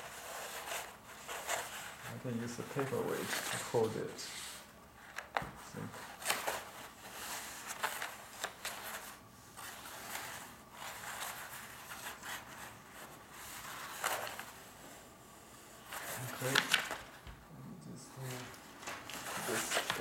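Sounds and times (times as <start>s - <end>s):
paper rustling and crinkling: 0.0s - 15.0s, 15.8s - 17.4s, 18.1s - 20.0s.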